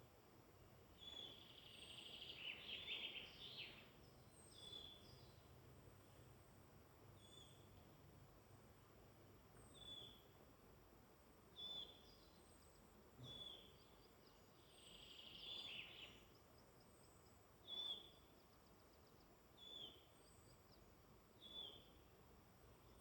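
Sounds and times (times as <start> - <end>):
faint steady background hiss: 0.0 - 23.0.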